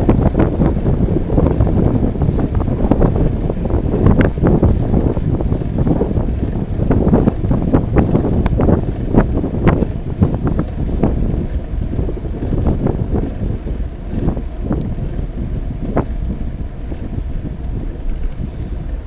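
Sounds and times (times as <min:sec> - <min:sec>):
bicycle knocks and rattles: 0:00.0 - 0:19.0
wind rumbling on microphone: 0:00.0 - 0:19.0.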